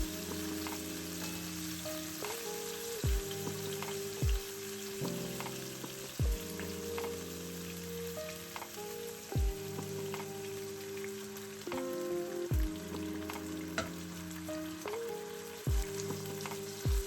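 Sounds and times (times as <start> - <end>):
food sizzling in a pan: 0.0 - 17.0
music with held chords: 0.0 - 17.0.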